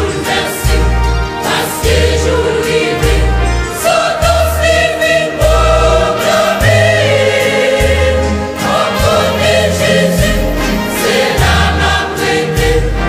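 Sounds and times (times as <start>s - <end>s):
voices singing gospel: 0.0s - 13.0s.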